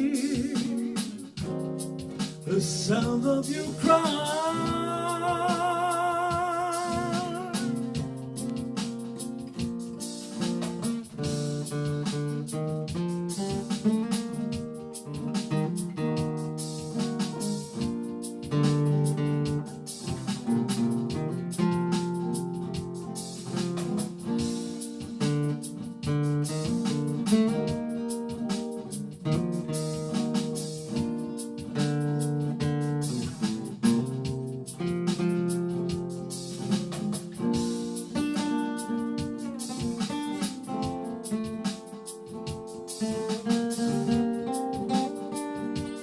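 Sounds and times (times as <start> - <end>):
country ballad guitar instrumental: 0.0 - 46.0.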